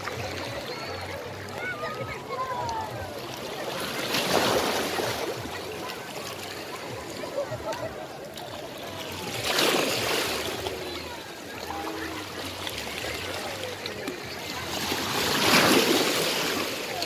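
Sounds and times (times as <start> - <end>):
seawater sloshing and splashing: 0.0 - 17.0.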